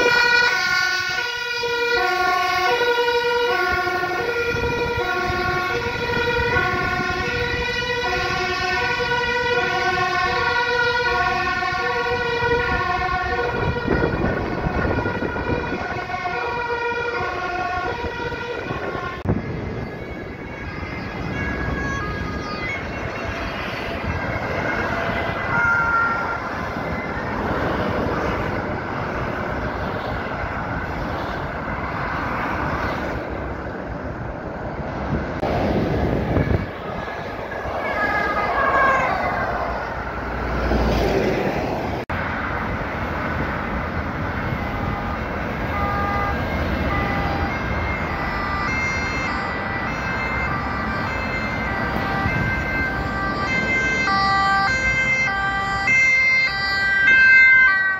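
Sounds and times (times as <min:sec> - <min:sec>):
two-tone emergency siren: 0:00.0 - 0:33.4, 0:35.3 - 0:57.9
motorway traffic noise: 0:00.0 - 0:57.9.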